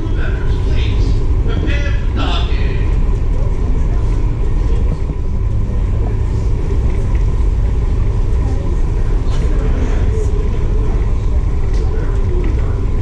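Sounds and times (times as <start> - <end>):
faint constant hum: 0.0 - 13.0
ferry engine rumble: 0.0 - 13.0.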